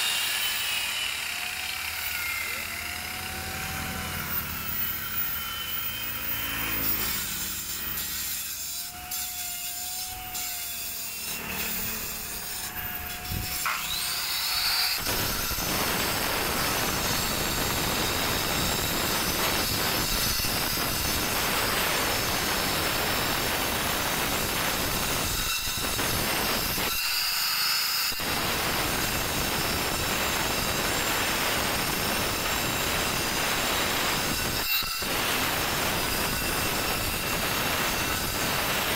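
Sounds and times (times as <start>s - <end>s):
angle grinder grinding stone: 0.0s - 38.9s.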